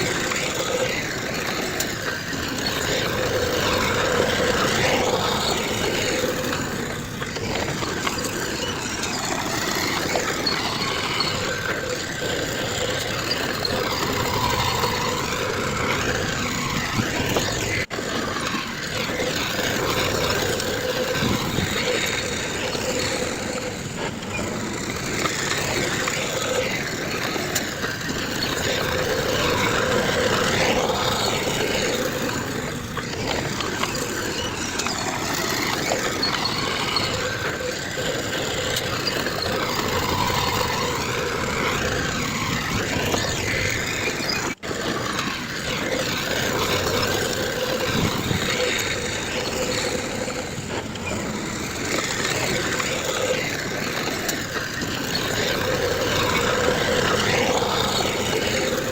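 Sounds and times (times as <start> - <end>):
heavy diesel machinery engines: 0.0 - 58.9.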